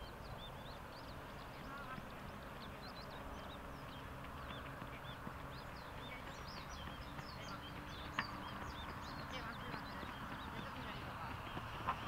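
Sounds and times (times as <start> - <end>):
outdoor rush of noise: 0.0 - 12.0
small birds chirping: 0.0 - 12.0.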